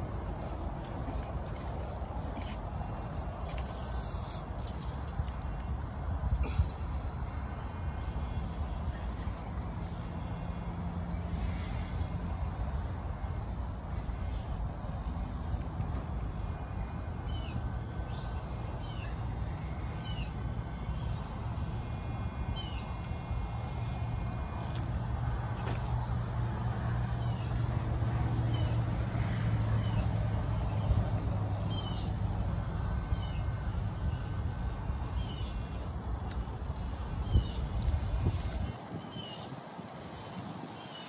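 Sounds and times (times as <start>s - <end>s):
electric motor humming: 0.0s - 41.0s.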